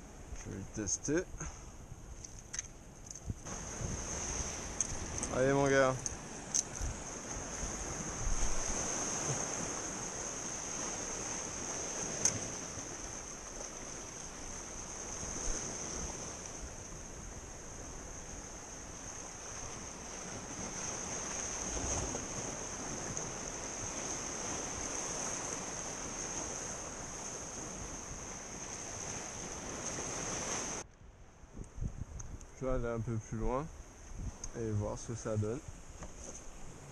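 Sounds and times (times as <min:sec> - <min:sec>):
surf on rocky shore: 0:00.0 - 0:30.9, 0:31.5 - 0:36.9
insect drone: 0:01.2 - 0:30.8
wind on microphone: 0:03.0 - 0:30.8, 0:31.4 - 0:36.9.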